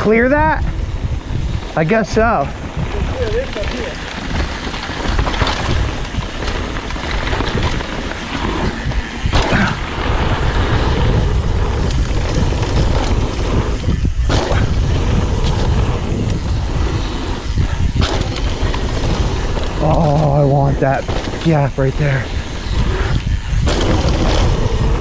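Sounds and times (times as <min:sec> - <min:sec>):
tyres rolling over dirt: 0:00.0 - 0:25.0
wind buffeting microphone: 0:00.0 - 0:25.0
bike knocking and clattering: 0:00.5 - 0:25.0.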